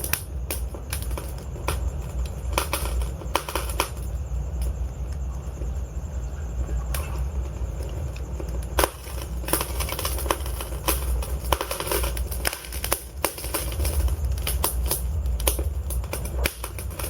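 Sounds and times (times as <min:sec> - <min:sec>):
logs crackling and popping: 0:00.0 - 0:05.7, 0:06.6 - 0:17.0
low rumble of flames: 0:00.0 - 0:17.0.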